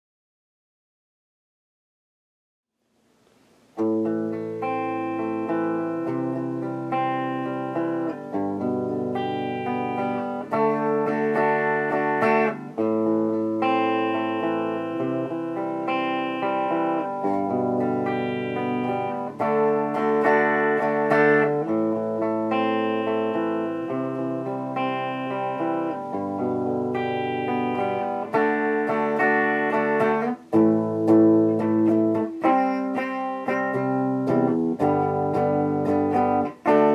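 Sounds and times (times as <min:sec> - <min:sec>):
guitar picked chords: 0:03.7 - 0:36.9.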